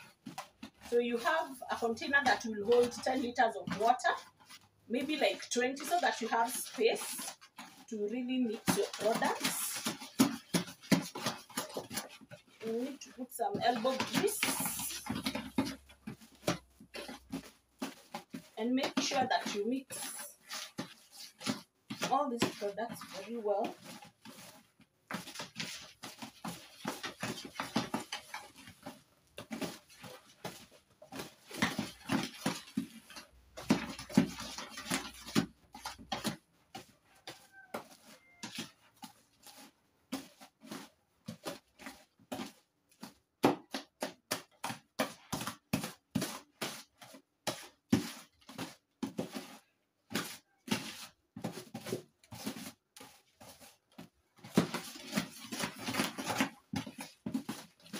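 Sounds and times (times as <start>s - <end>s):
spatula scraping paste in basin: 0.0s - 57.9s.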